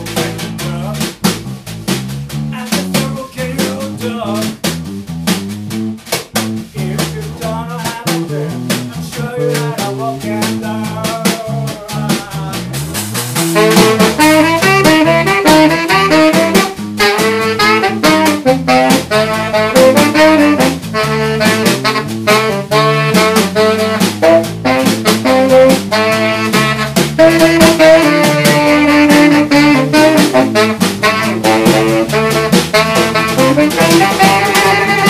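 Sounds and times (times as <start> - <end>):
drum kit: 0.0 - 35.0
electric bass: 0.0 - 35.0
lead melody line: 1.8 - 35.0.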